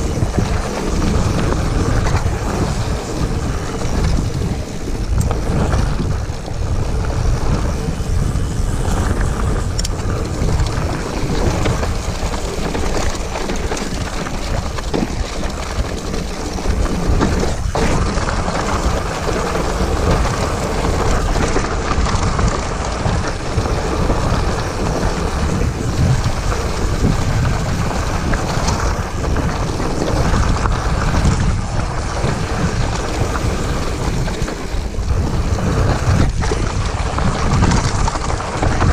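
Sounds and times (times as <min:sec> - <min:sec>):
bike rattling over bumps: 0:00.0 - 0:38.9
tyres crunching over gravel: 0:00.0 - 0:38.9
wind on microphone: 0:00.0 - 0:38.9.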